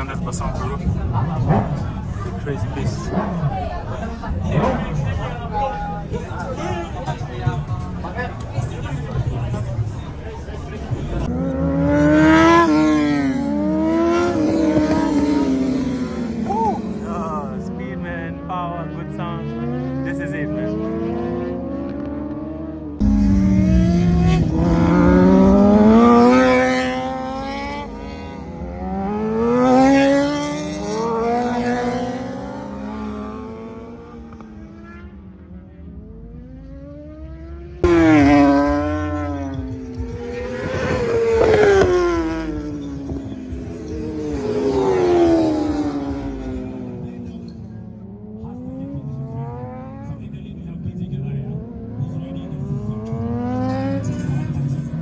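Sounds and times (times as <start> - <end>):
sport-bike engines passing: 0.0 - 55.0.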